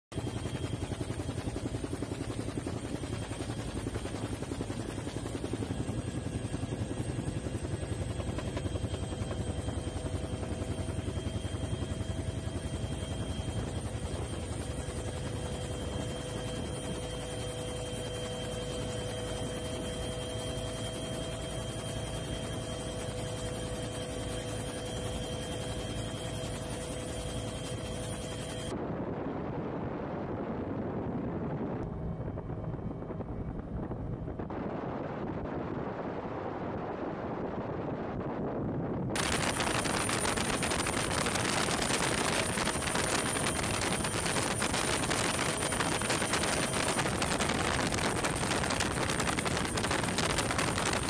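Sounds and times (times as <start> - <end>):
helicopter rotor and engine: 0.1 - 51.0.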